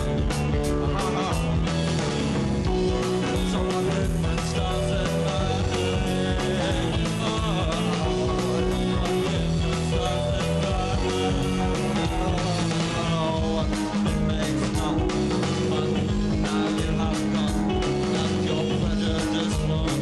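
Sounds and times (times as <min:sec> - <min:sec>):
bass guitar: 0:00.0 - 0:20.0
electric guitar: 0:00.0 - 0:20.0
man singing into a microphone: 0:00.0 - 0:20.0
steady drum beat: 0:00.0 - 0:20.0.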